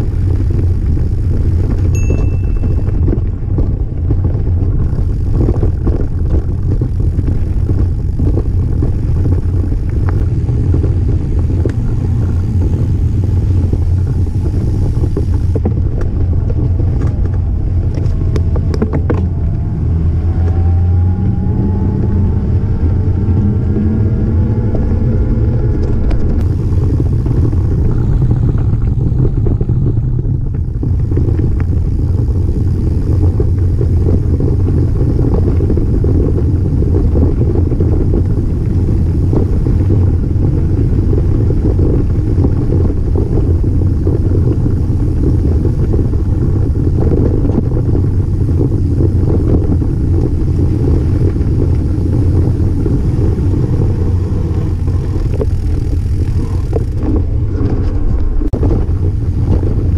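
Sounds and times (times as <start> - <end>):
bicycle tyres rolling on dirt: 0.0 - 59.9
wind buffeting microphone: 0.0 - 59.9.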